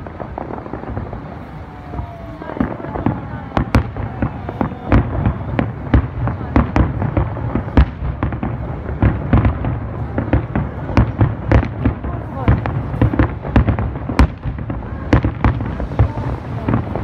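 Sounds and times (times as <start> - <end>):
firework bangs: 0.0 - 17.0
firework crackling rumble: 0.0 - 17.0.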